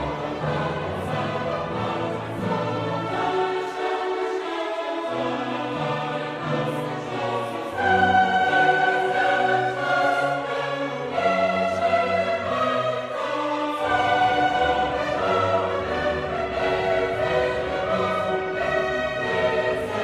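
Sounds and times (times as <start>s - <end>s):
choir singing long held notes: 0.0s - 20.0s
orchestra playing: 0.0s - 20.0s.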